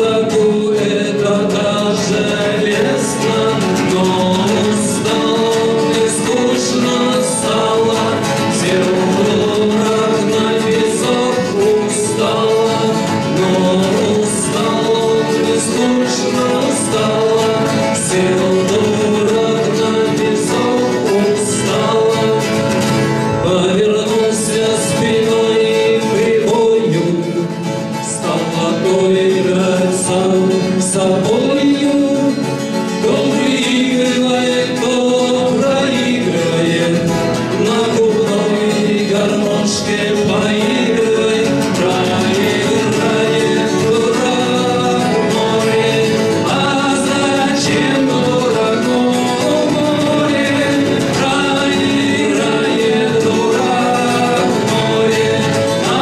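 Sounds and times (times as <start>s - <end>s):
strummed acoustic guitars: 0.0s - 56.0s
two men singing together: 0.0s - 56.0s.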